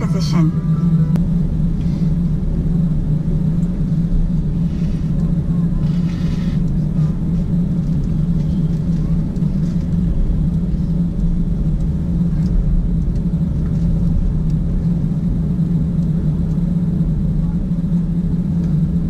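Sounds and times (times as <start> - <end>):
aircraft cabin rumble and hum: 0.0 - 19.0.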